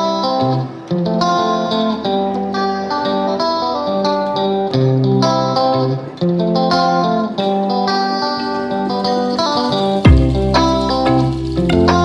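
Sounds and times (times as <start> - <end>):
guitar instrumental music: 0.0 - 12.0.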